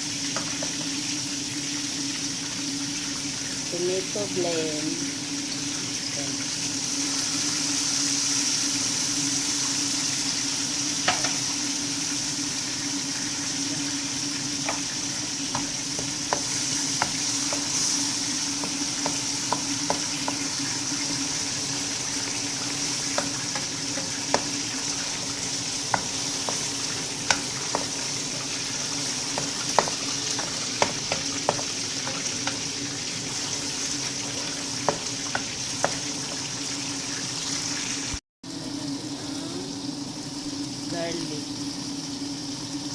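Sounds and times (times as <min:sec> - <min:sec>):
sauce sizzling in a frying pan: 0:00.0 - 0:42.9.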